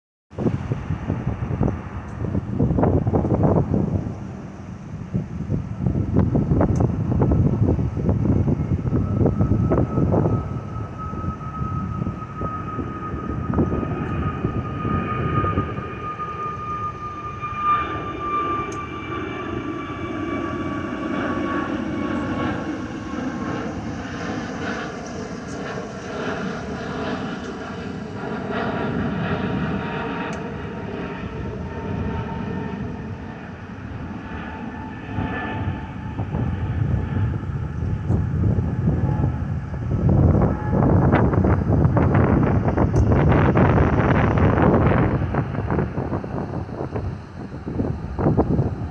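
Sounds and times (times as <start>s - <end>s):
jet engines rumbling and whining: 0.3s - 48.9s.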